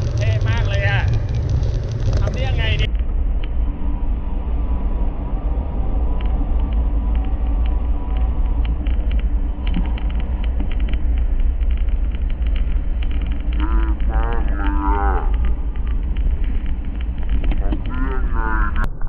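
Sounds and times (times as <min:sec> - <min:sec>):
faint clicks: 0:00.0 - 0:18.9.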